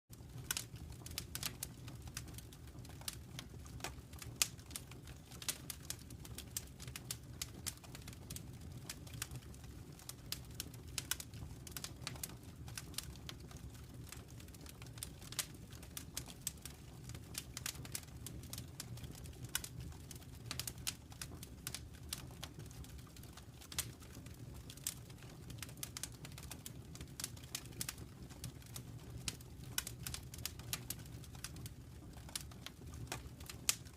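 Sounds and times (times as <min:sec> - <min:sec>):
wood fire crackling and popping: 0:00.1 - 0:33.9.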